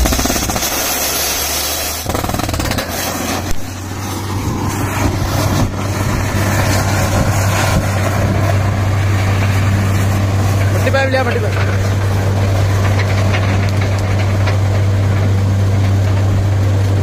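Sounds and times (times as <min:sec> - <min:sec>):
drilling rig low drone: 0:00.0 - 0:17.0.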